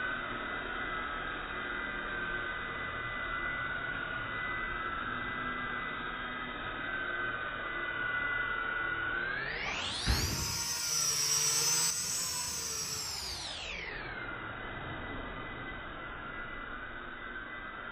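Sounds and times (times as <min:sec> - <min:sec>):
slowed drone propeller whine: 0:00.0 - 0:17.9.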